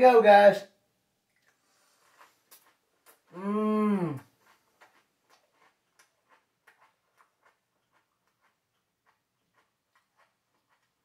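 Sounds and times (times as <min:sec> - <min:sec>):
chewing crunchy cereal: 0:01.3 - 0:03.4, 0:04.1 - 0:11.0.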